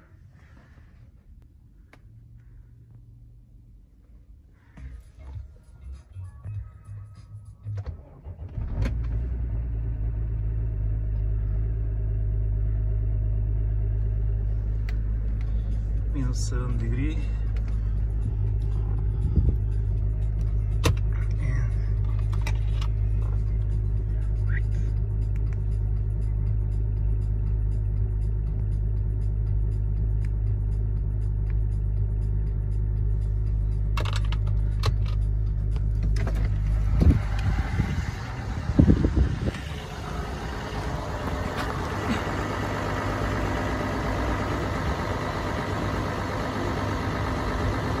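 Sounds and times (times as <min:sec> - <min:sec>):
diesel engine idling: 0:08.1 - 0:48.0.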